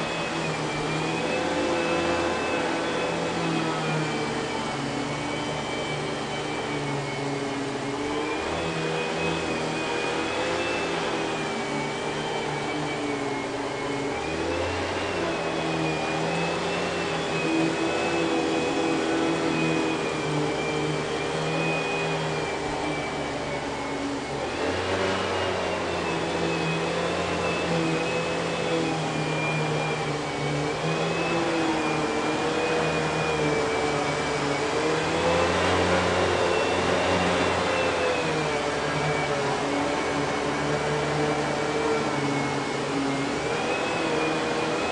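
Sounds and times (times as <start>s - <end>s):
vacuum cleaner motor whine: 0.0s - 44.9s.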